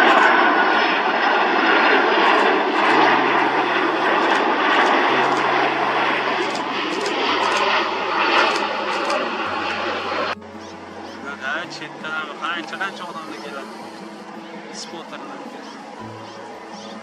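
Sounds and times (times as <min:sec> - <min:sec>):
faint high engine whine: 0:00.0 - 0:17.0
jet engines roaring: 0:00.0 - 0:17.0.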